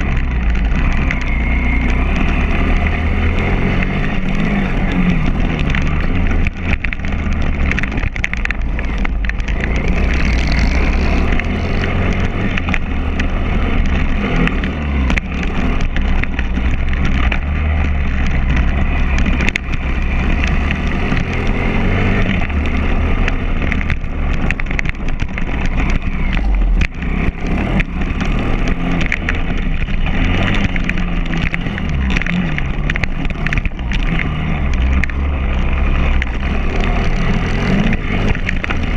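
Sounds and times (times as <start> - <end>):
knocks over bumps: 0.0 - 38.9
motorbike engine revving: 0.0 - 38.9.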